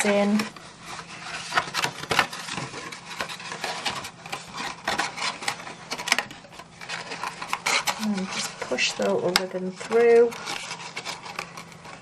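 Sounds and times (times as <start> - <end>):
cardstock rubbing and scraping: 0.0 - 12.0.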